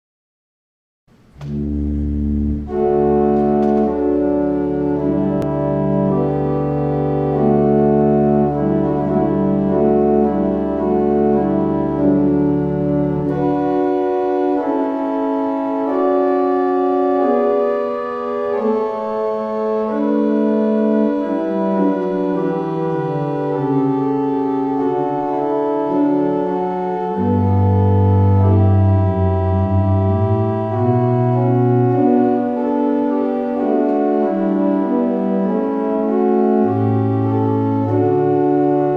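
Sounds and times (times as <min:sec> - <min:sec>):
deep organ pedal bass: 0:01.1 - 0:38.9
organ playing sustained chords: 0:01.1 - 0:38.9.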